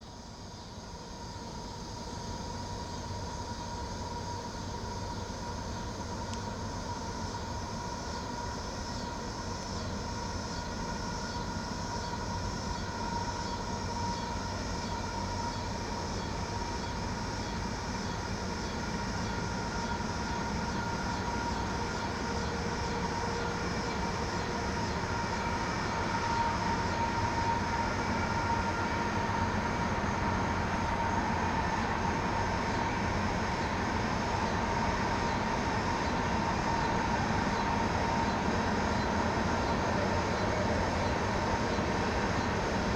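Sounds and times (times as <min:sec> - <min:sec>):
wheels rumbling on rail: 0:02.0 - 0:42.9.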